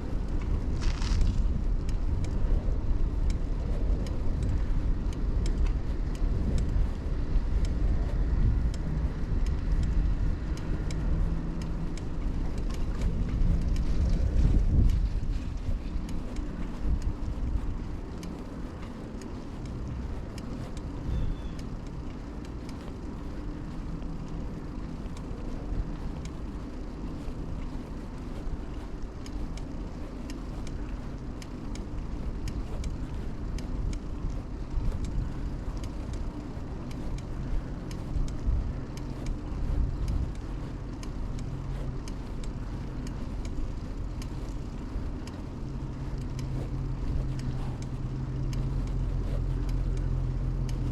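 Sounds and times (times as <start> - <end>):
bike ticks and rattles: 0.0 - 50.9
traffic passing: 0.0 - 50.9
tyres and wind rumble: 0.0 - 50.9.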